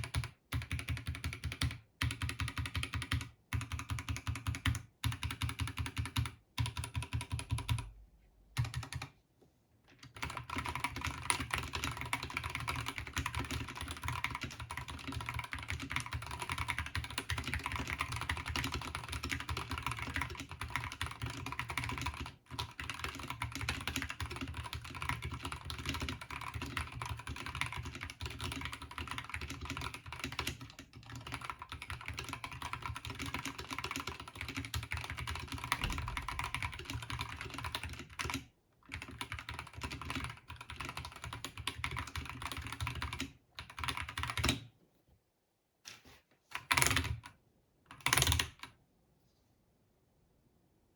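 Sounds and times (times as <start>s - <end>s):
mechanical keyboard typing: 0.0s - 7.9s, 8.6s - 9.1s, 10.0s - 44.7s, 46.5s - 47.3s, 47.9s - 48.7s.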